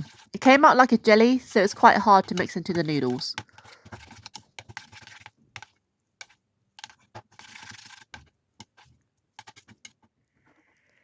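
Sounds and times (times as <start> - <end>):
utensil clicking and scraping bowl: 0.0 - 10.1.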